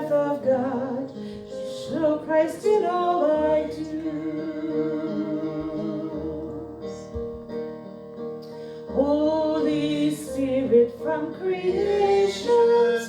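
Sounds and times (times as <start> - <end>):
people singing a hymn: 0.0 - 7.0, 9.0 - 13.0
piano playing held chords: 0.0 - 13.0.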